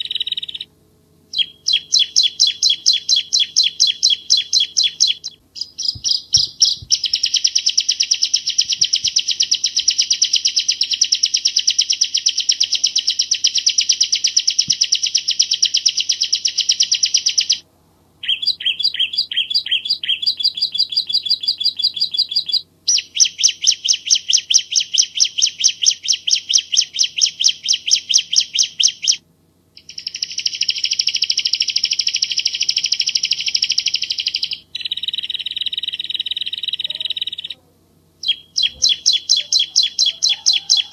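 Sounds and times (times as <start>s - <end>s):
bird singing fast trills: 0.0s - 17.6s, 18.2s - 29.2s, 29.8s - 37.6s, 38.2s - 40.9s.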